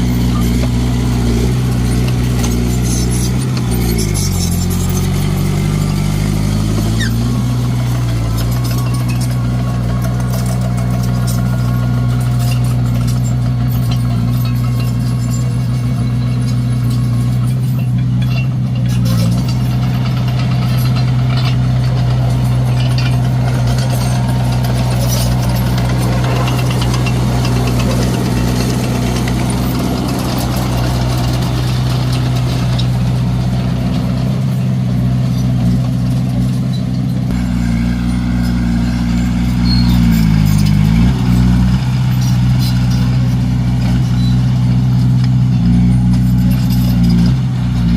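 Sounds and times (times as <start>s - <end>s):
bulldozer diesel engine running: 0.0s - 47.9s
clatter: 0.0s - 47.9s.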